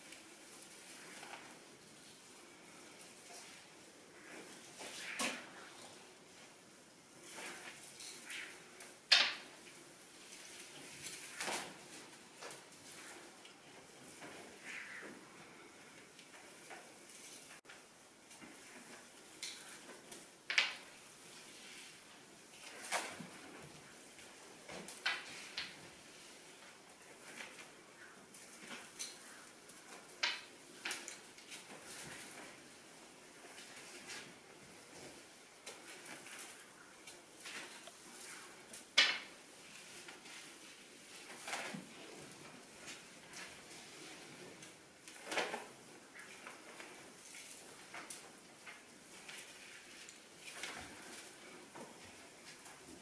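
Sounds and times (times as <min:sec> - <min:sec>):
rustling of performer's moves: 0:00.0 - 0:53.0.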